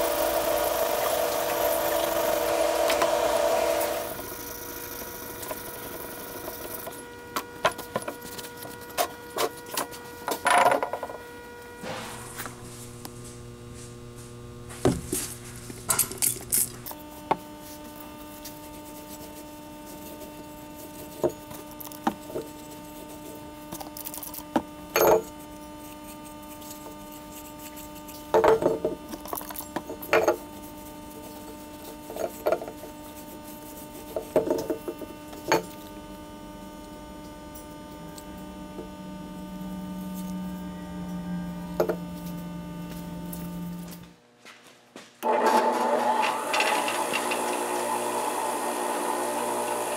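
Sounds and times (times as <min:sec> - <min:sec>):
electrical hum: 0:00.0 - 0:49.9.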